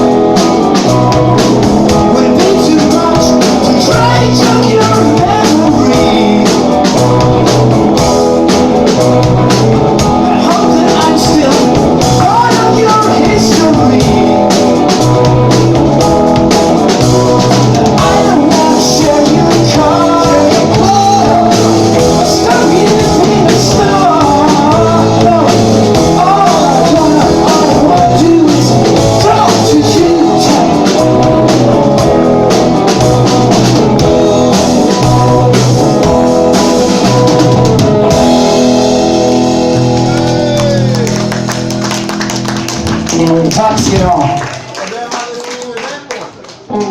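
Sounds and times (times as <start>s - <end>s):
singing voice or lead melody: 0.0s - 41.8s, 42.8s - 44.5s
rock band playing: 0.0s - 44.8s.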